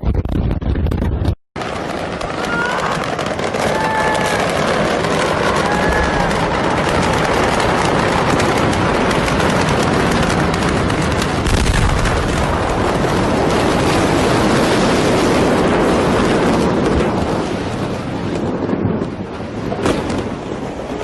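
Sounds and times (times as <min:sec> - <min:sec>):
deep rumble: 0:00.0 - 0:21.0
fire crackling and popping: 0:00.0 - 0:21.0
loud steady rush: 0:00.0 - 0:21.0.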